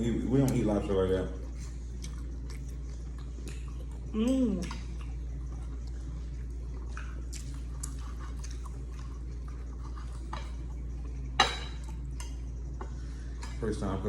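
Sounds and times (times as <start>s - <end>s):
chewing with small clicks: 0.2s - 13.8s.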